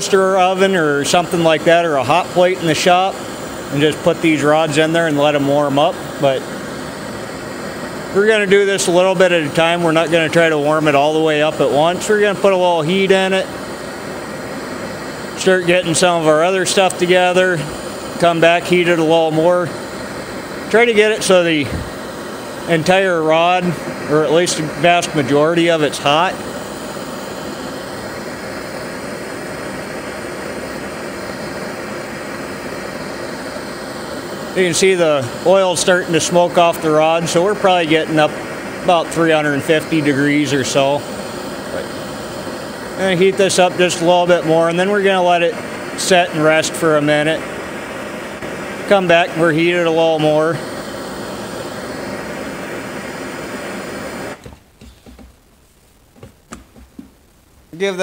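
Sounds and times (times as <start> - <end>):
propane torch hissing: 0.0 - 58.0.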